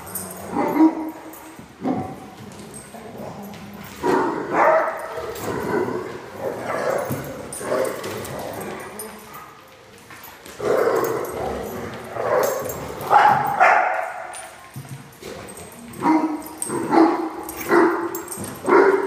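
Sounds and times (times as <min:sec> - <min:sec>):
dogs barking and yipping: 0:00.0 - 0:02.9, 0:03.9 - 0:09.6, 0:10.6 - 0:14.6, 0:15.6 - 0:19.0.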